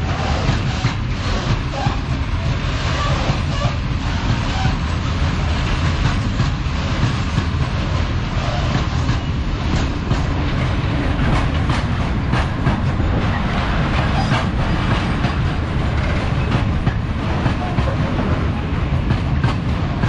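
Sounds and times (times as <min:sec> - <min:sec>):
freight wagons rumbling: 0:00.0 - 0:20.0
train wheels clicking over rail joints: 0:00.0 - 0:20.0.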